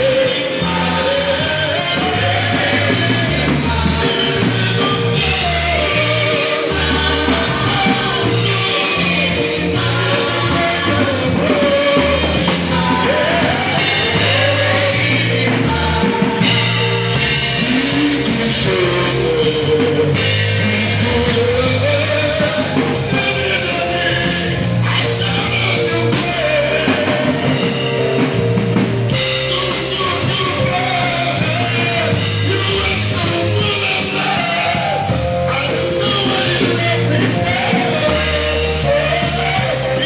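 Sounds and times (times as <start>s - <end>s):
bass notes: 0.0s - 40.0s
choir singing gospel song: 0.0s - 40.0s
drums: 0.0s - 40.0s.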